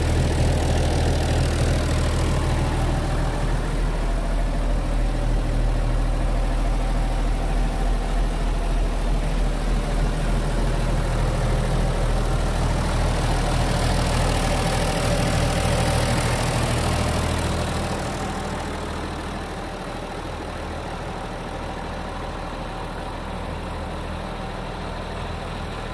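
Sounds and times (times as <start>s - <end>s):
tractor diesel engine idling: 0.0s - 25.9s.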